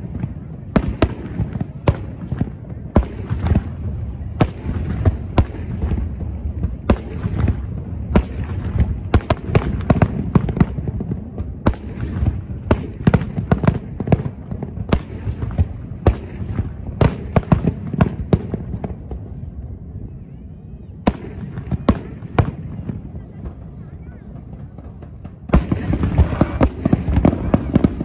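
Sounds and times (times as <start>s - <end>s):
continuous low rumble: 0.0s - 28.0s.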